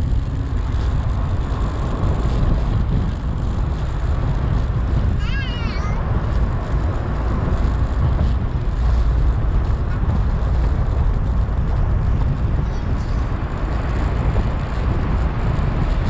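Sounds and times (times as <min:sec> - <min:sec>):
road noise: 0:00.0 - 0:16.0
vehicle engine: 0:00.0 - 0:16.0.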